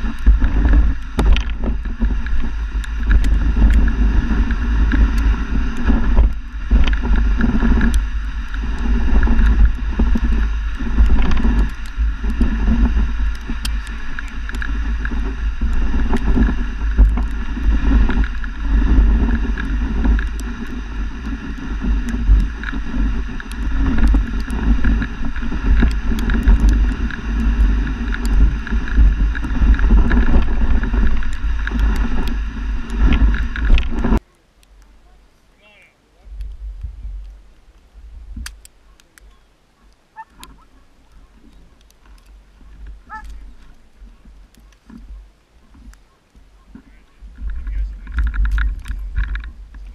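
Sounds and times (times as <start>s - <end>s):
wind buffeting microphone: 0.0s - 35.3s, 36.2s - 49.9s
steady rushing noise: 0.0s - 49.9s.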